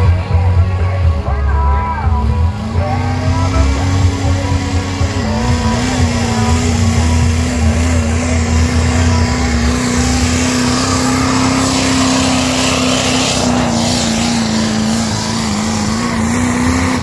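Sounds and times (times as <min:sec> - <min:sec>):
diesel truck engine at full throttle: 0:00.0 - 0:17.0.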